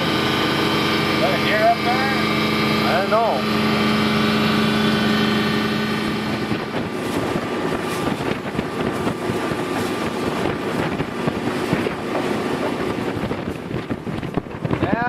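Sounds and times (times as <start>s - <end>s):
boat engine drone: 0.0s - 15.0s
water noise: 0.0s - 15.0s
wind buffeting microphone: 0.0s - 15.0s.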